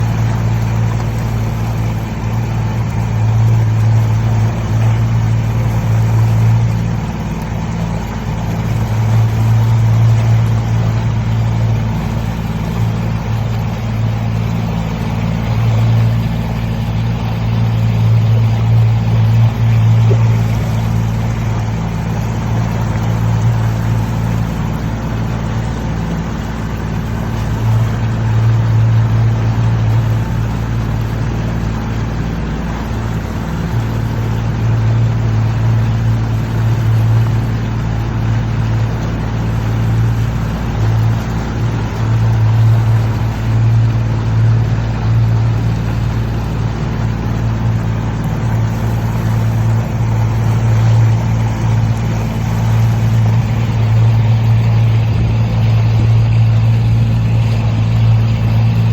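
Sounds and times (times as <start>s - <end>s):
low engine drone: 0.0s - 58.9s.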